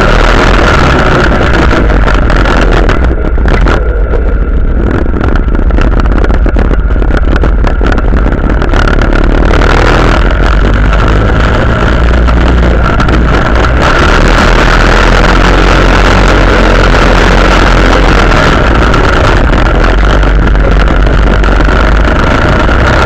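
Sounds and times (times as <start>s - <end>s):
quad bike engines running: 0.0s - 23.0s
wind noise on microphone: 0.0s - 23.0s.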